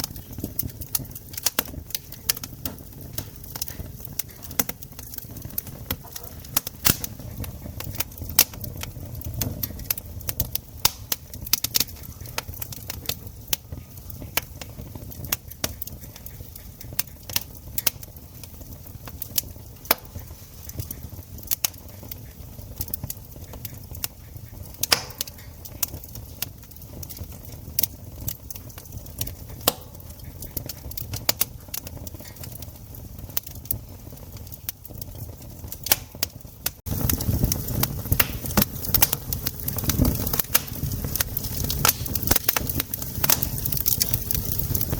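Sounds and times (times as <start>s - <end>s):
campfire wood crackling: 0.0s - 44.9s.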